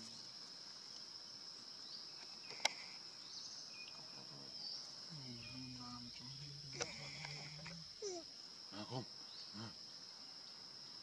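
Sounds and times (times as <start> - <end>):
high-pitched insect drone: 1.9 - 11.0.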